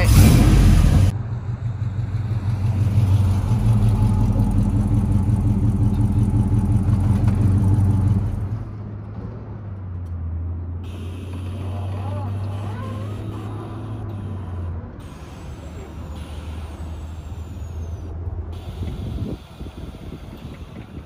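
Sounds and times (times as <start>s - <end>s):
car engine idling: 0.0s - 8.8s, 10.8s - 21.0s.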